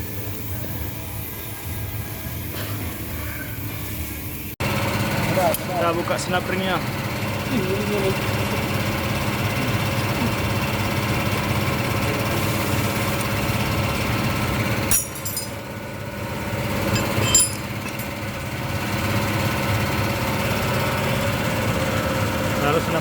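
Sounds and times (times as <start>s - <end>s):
steady engine hum: 0.0s - 23.0s.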